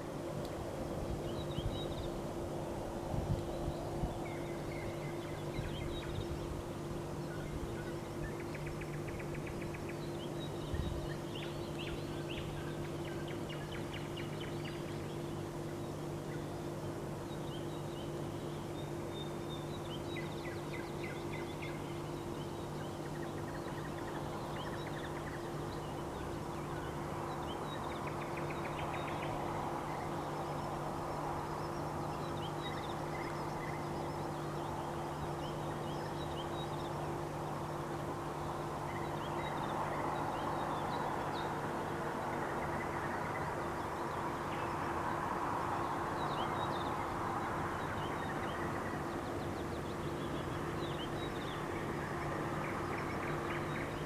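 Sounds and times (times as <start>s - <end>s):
low hum of city noise: 0.0s - 54.0s
songbirds trilling: 0.0s - 54.0s.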